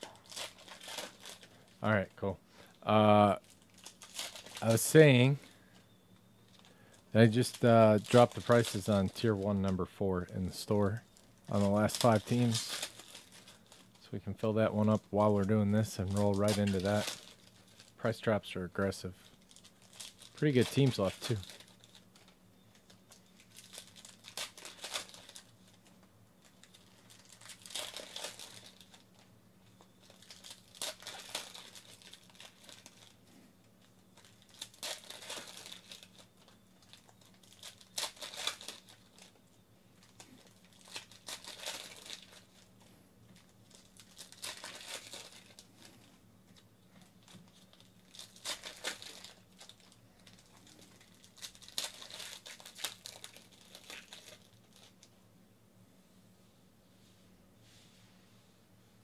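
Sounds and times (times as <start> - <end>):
card wrappers tearing and crinkling: 0.0 - 5.8, 6.4 - 55.1.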